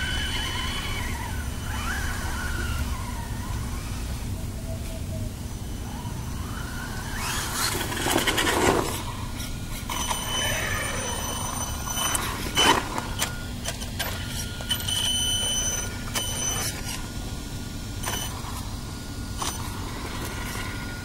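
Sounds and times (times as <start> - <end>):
electric motor high-pitched whine: 0.0 - 21.0.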